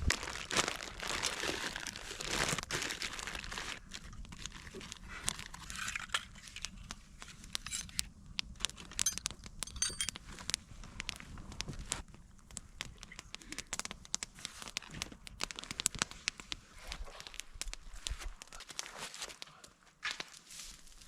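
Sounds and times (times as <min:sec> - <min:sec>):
camping gear crinkling and rustling: 0:00.0 - 0:10.5, 0:14.4 - 0:21.0.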